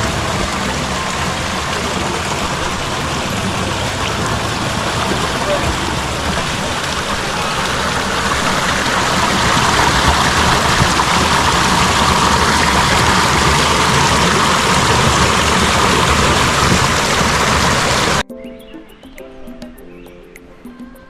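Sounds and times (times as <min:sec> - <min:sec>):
flowing water rushing: 0:00.0 - 0:18.2
low rumble: 0:00.0 - 0:18.2.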